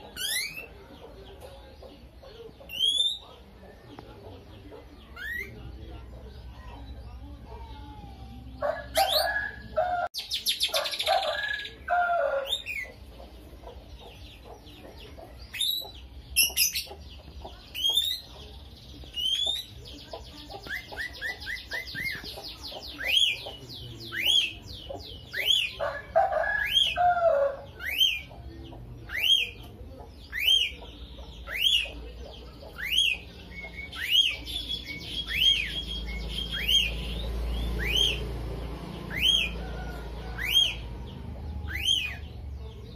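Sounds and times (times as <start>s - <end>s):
bird chirping and trilling: 0.0s - 3.8s, 4.5s - 42.9s.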